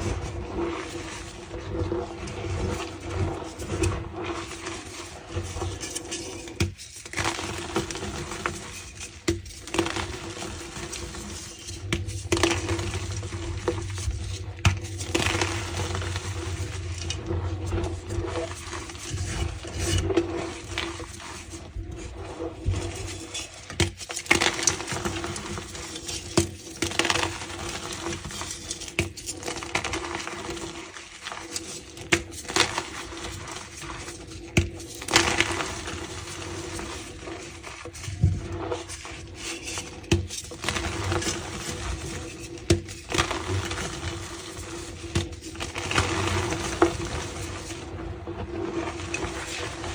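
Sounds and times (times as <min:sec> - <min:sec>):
chalk crushing and crunching: 0:00.0 - 0:49.9.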